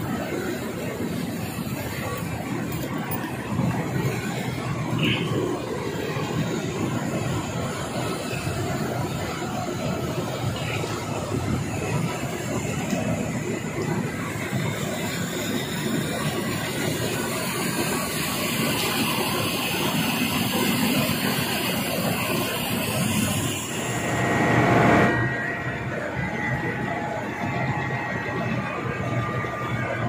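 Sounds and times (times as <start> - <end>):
belt conveyor rumbling rattle: 0.0 - 30.0.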